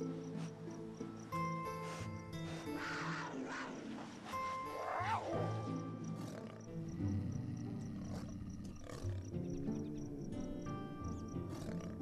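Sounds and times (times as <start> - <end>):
background music: 0.0 - 12.0
mountain lions snarling and growling: 1.7 - 12.0.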